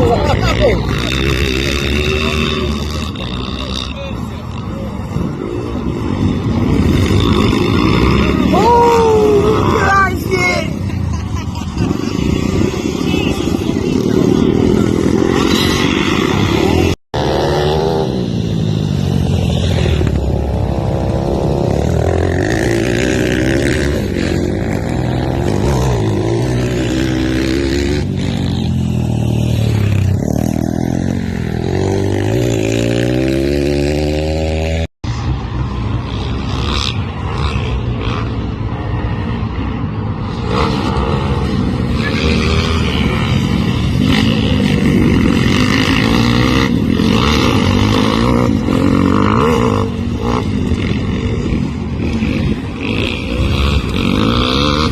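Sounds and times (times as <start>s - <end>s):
pit bike engine revving: 0.0s - 35.2s, 36.0s - 54.9s.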